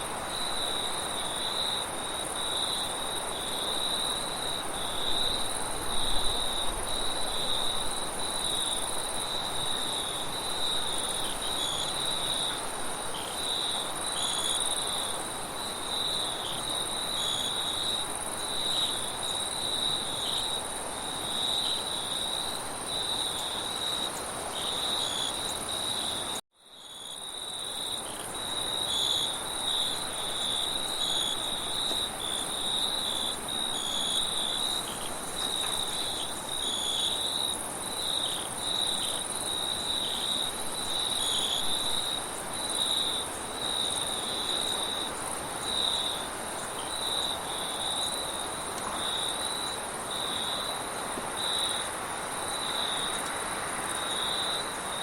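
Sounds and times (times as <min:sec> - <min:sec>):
crickets chirping: 0:00.0 - 0:55.0
high insect hum: 0:00.0 - 0:55.0.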